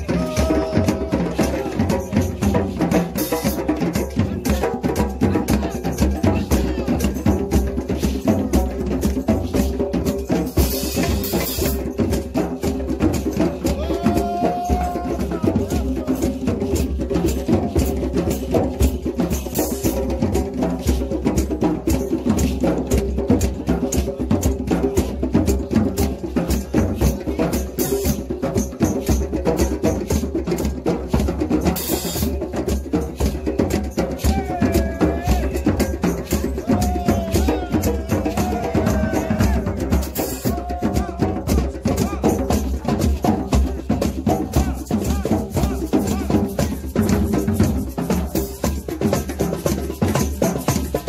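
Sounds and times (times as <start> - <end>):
djembe drumming: 0.0 - 51.0
drum kit with cymbals: 0.0 - 51.0.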